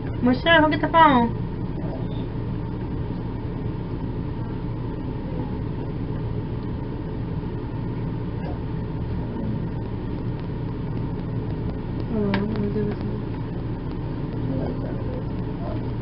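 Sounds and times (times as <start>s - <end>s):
low hum of running machinery: 0.0s - 16.0s.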